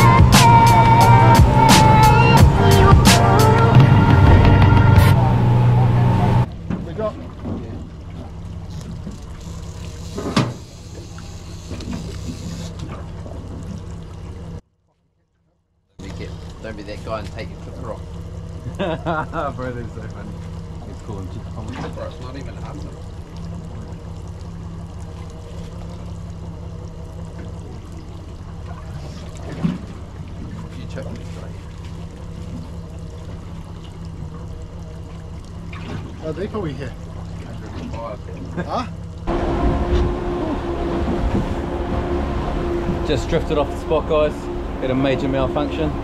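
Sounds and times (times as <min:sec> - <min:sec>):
outboard motor idling: 0:00.0 - 0:46.0
water splashing and trickling: 0:06.4 - 0:15.4, 0:16.0 - 0:46.0.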